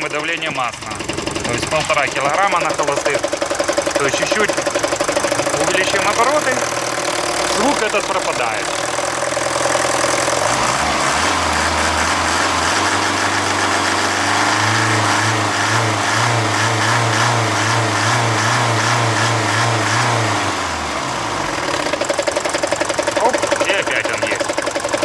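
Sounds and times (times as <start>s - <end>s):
diesel engine revving: 0.0s - 25.0s.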